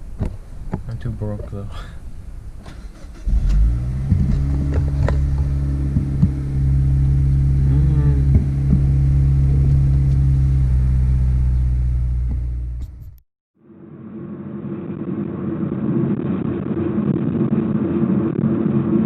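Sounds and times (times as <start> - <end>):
car engine running: 0.8 - 13.2, 14.1 - 19.0.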